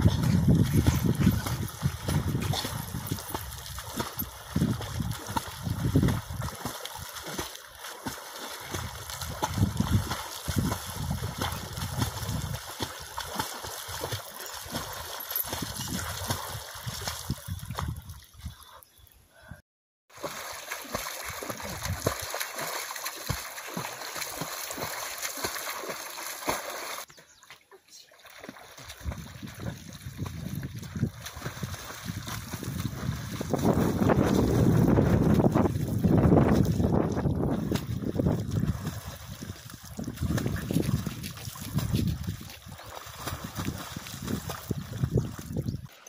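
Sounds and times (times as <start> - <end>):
water splashing from swimming: 0.0 - 18.3, 20.1 - 46.0.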